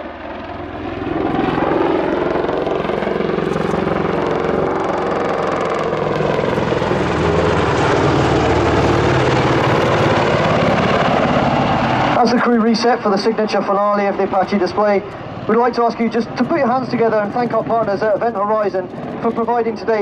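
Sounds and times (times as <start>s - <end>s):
helicopter rotor and engine noise: 0.0s - 20.0s.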